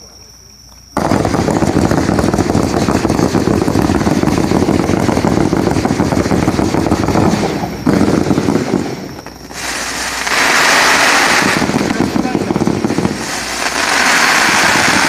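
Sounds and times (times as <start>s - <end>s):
fireworks crackling: 0.7s - 15.0s.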